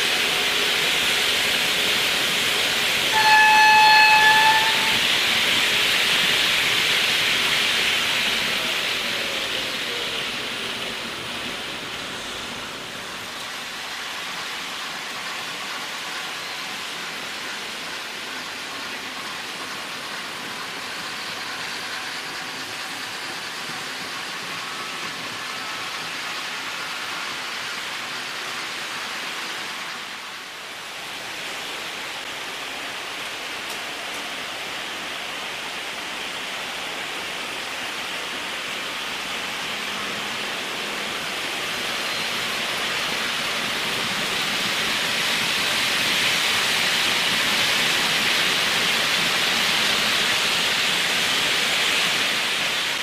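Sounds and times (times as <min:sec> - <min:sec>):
model train wheels rolling on rails: 0:00.0 - 0:53.0.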